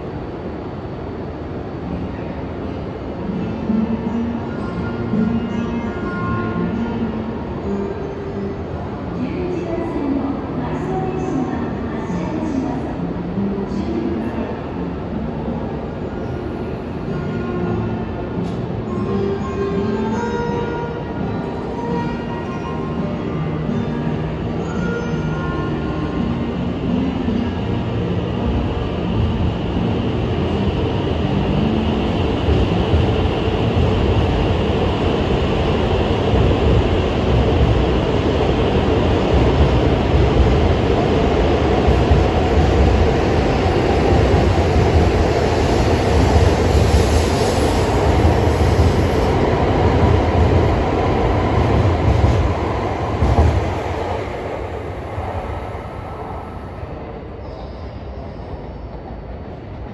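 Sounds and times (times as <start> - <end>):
high-speed train running noise: 0.0 - 59.9.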